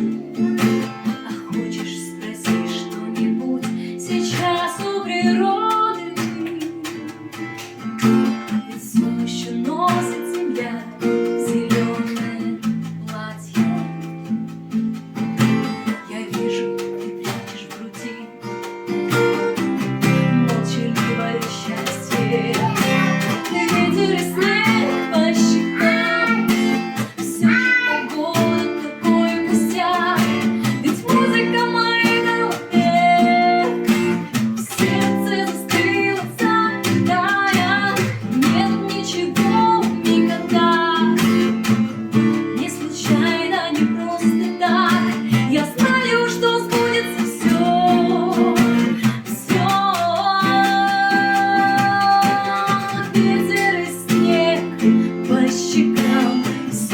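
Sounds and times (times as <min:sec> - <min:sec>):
acoustic guitar strumming: 0:00.0 - 0:56.9
woman singing: 0:00.0 - 0:56.9.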